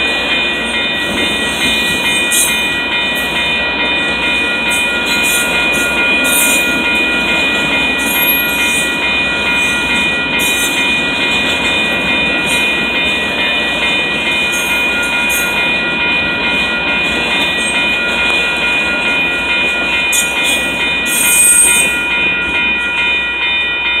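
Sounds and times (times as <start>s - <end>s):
freight train rumble and wheel clatter: 0.0s - 24.0s
high ringing tone: 0.4s - 11.1s, 14.5s - 24.0s.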